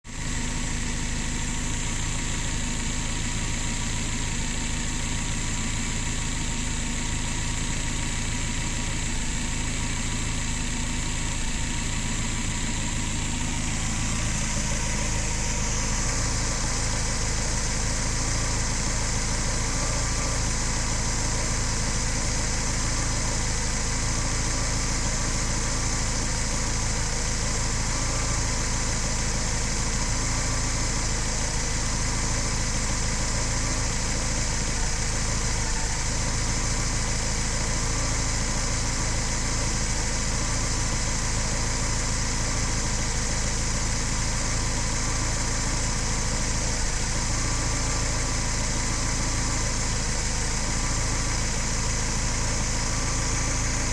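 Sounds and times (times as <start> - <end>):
engine idling and misfiring: 0.0 - 53.9.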